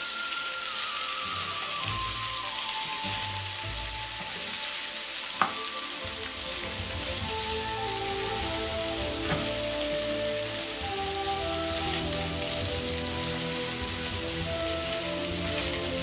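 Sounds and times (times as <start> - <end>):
meat and onions sizzling in a pan: 0.0 - 16.0.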